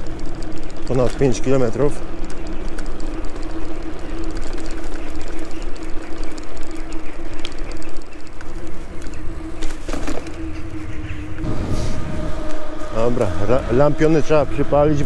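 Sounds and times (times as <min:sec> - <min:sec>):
bike frame rattling: 0:00.0 - 0:15.0
electric motor whine: 0:00.0 - 0:15.0
tyres rumbling on cobblestones: 0:00.0 - 0:15.0.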